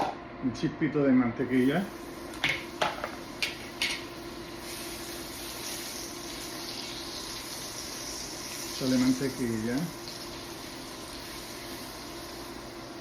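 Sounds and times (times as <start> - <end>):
butter sizzling in a pan: 1.9 - 13.0.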